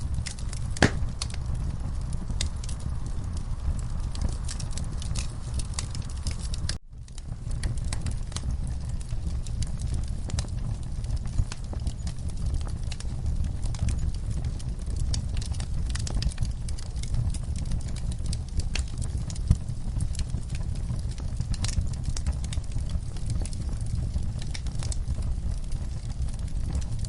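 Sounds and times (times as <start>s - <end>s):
log fire crackling: 0.0s - 27.0s.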